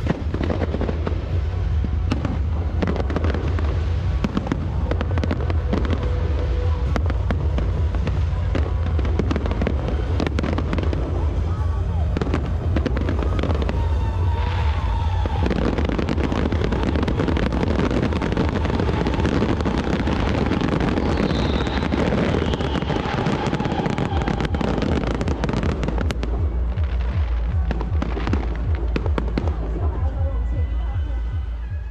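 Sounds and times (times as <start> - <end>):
fireworks bursting and crackling: 0.0 - 31.9.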